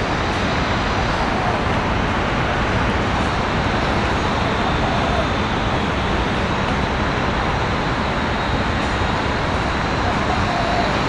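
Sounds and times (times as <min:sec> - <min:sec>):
city road traffic: 0:00.0 - 0:11.0.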